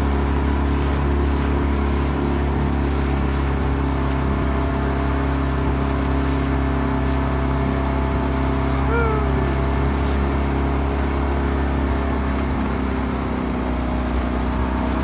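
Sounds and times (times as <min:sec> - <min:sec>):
outboard motor droning: 0:00.0 - 0:15.0
wind: 0:00.0 - 0:15.0.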